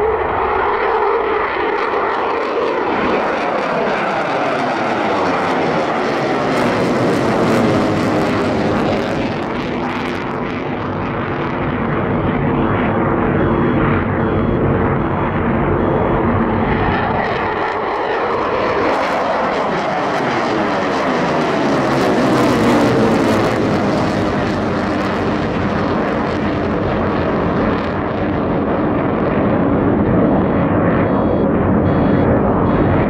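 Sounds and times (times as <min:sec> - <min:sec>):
jet engines at full afterburner: 0:00.0 - 0:33.0.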